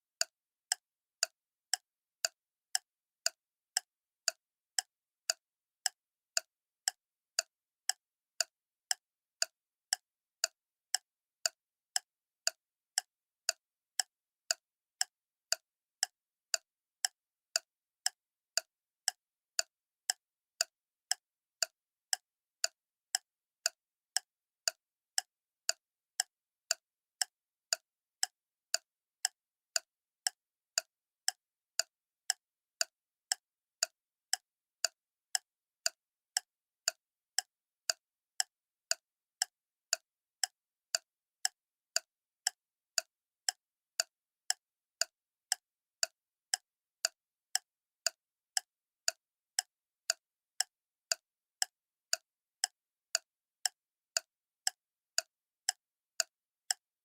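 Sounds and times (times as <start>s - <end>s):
clock ticking: 0.2s - 56.8s.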